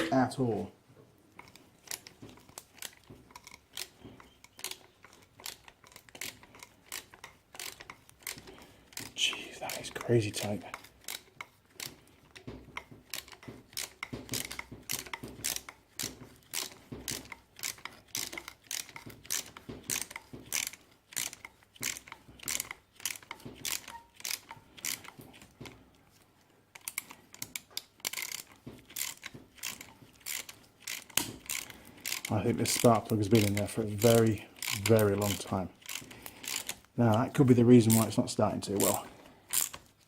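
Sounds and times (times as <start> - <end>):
ratchet wrench clicking: 1.4 - 12.0, 12.8 - 25.2, 26.8 - 36.9, 38.8 - 39.8.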